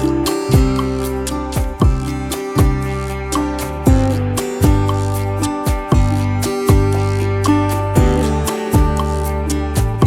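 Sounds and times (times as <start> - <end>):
plucked acoustic guitar music: 0.0 - 10.0.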